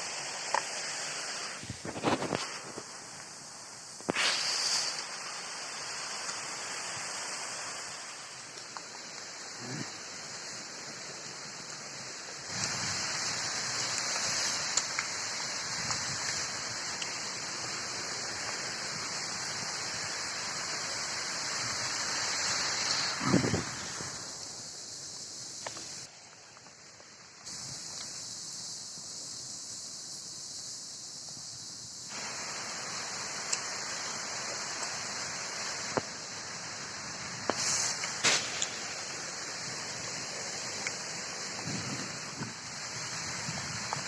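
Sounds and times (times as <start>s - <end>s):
steady hissing noise: 0.0s - 44.0s.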